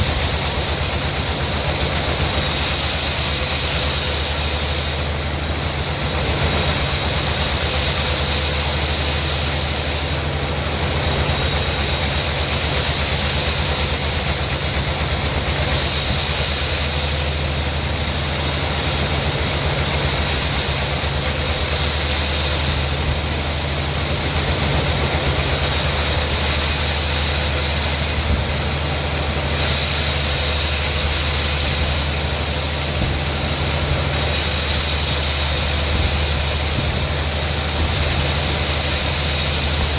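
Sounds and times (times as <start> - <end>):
high-pitched machine whine: 0.0 - 39.9
sawmill machinery hum: 0.0 - 39.9.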